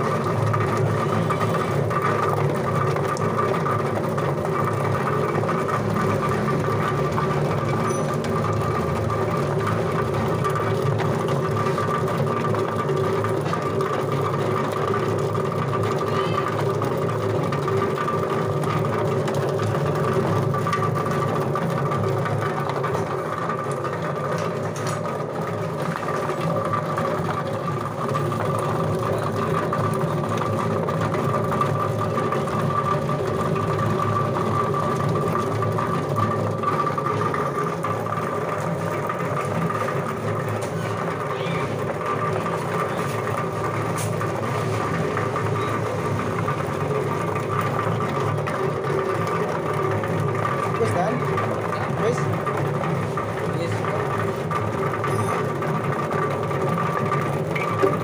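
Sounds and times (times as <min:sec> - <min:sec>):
spinning machine motor hum: 0:00.0 - 0:58.0.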